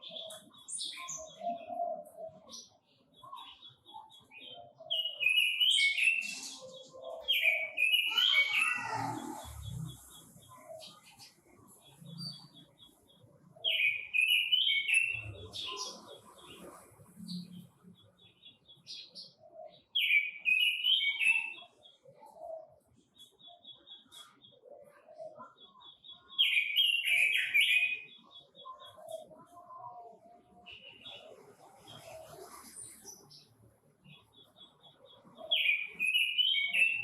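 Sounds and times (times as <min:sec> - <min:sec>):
bird warbling song: 0:00.0 - 0:37.0.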